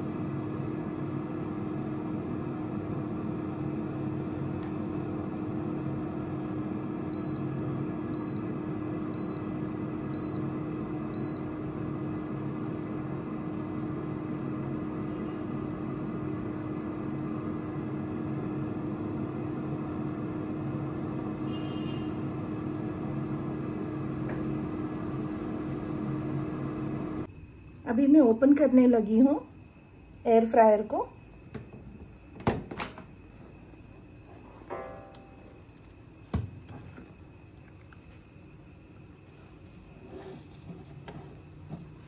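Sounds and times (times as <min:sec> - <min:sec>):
air fryer fan humming: 0:00.0 - 0:42.0.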